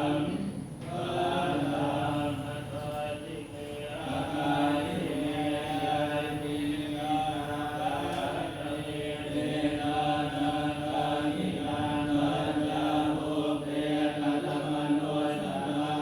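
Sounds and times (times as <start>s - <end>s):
monks chanting in unison: 0.0s - 16.0s.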